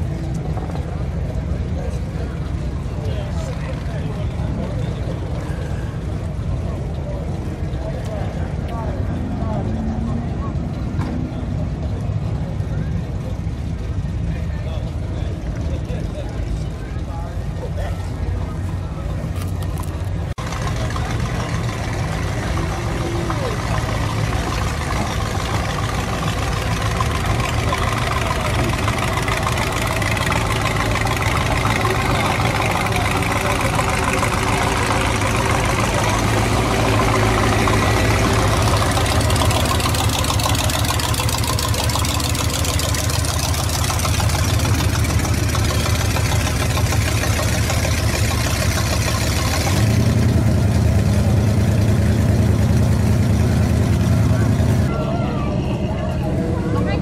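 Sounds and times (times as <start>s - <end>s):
car engine idling: 0.0s - 57.0s
low steady engine note: 0.0s - 57.0s.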